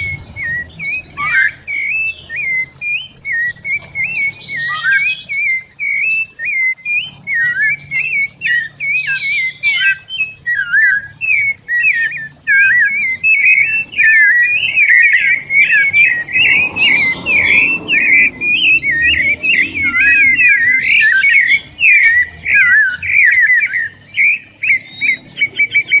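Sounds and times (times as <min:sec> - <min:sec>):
thrush singing warbling whistles: 0:00.0 - 0:26.0.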